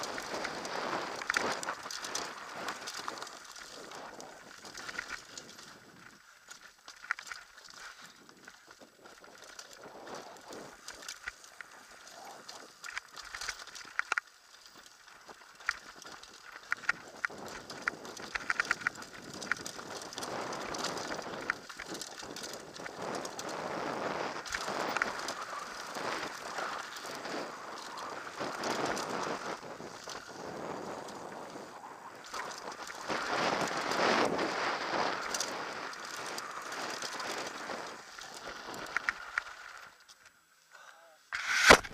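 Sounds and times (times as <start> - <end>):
mountain bike rattling: 0.0 - 40.3.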